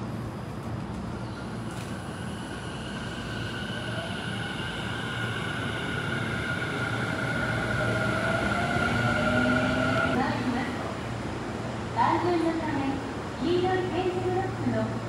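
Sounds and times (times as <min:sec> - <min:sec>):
electric train rumble: 0:00.0 - 0:15.0
train high whine: 0:00.0 - 0:15.0.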